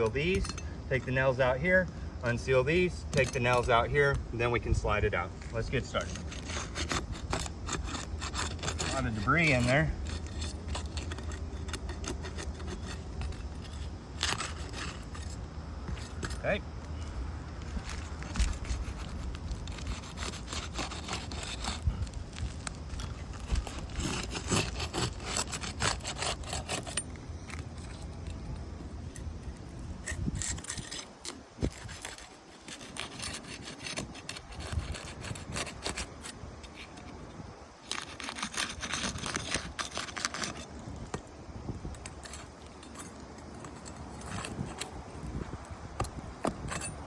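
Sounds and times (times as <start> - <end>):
tool scraping under shingles: 0.0 - 47.0.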